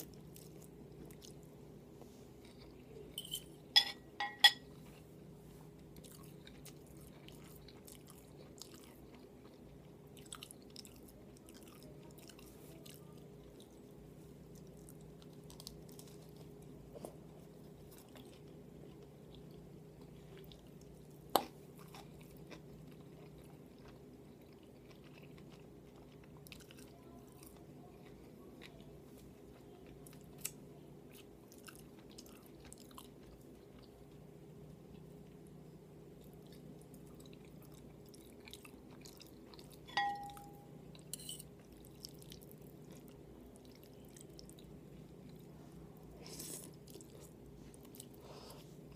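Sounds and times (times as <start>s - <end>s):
person chewing: 0.0s - 1.5s, 2.4s - 3.2s, 5.8s - 13.8s, 14.4s - 35.6s, 36.2s - 48.9s
faint steady hum: 0.0s - 48.9s.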